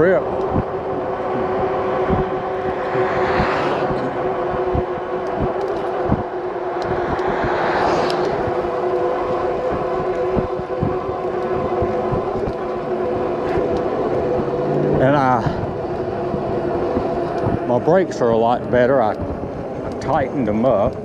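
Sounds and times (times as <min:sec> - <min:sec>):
electric bike motor whining: 0:00.0 - 0:21.0
vehicles passing: 0:00.0 - 0:21.0
wind buffeting microphone: 0:00.0 - 0:21.0.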